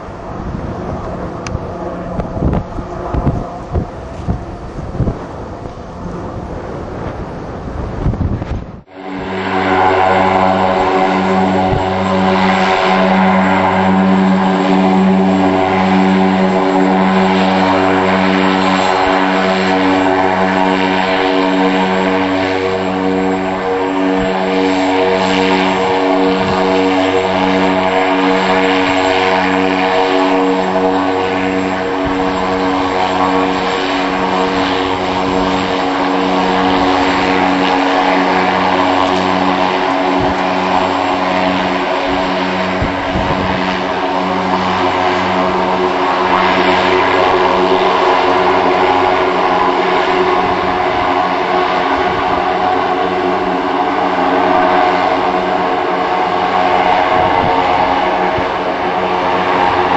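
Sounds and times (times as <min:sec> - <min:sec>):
propeller aircraft engines droning: 0:00.0 - 0:59.9
whining turbine hiss: 0:08.8 - 0:59.9.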